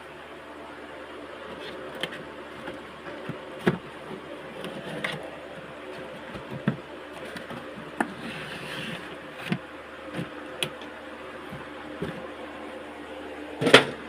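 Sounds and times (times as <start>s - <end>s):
buzzing hum: 0.0s - 14.0s.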